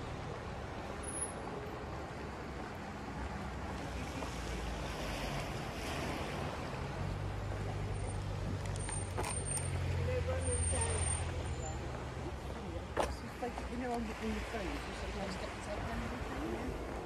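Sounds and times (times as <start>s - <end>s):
surf washing: 0.0s - 8.9s, 9.8s - 17.0s.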